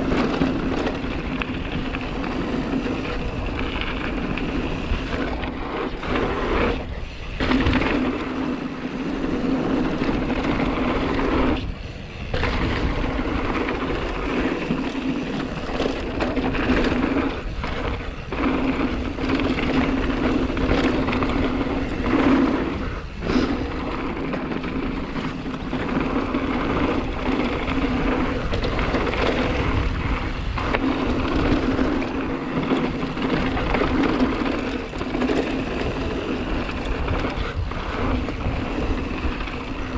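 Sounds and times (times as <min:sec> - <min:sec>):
bike tyre and riding noise: 0:00.0 - 0:39.9.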